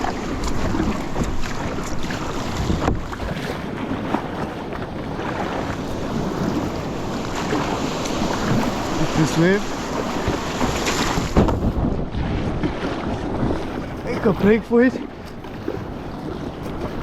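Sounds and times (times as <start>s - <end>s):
surf: 0.0s - 17.0s
water splashing around paddle: 0.0s - 17.0s
wind buffeting microphone: 0.0s - 17.0s.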